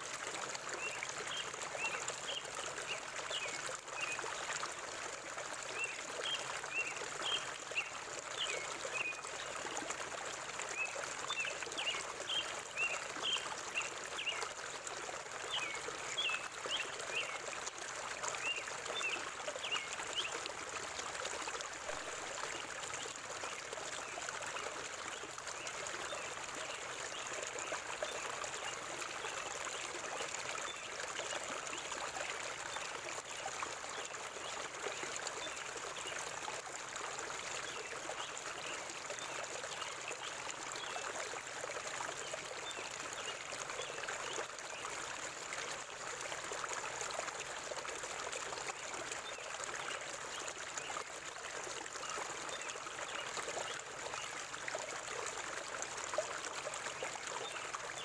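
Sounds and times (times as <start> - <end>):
river water flowing: 0.0 - 58.0
small trickling splashes: 0.0 - 58.0.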